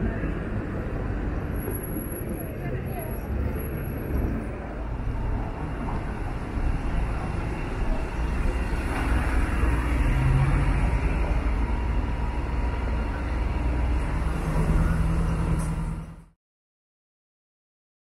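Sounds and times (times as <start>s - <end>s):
low engine drone: 0.0s - 16.4s
passing vehicles: 0.0s - 16.4s.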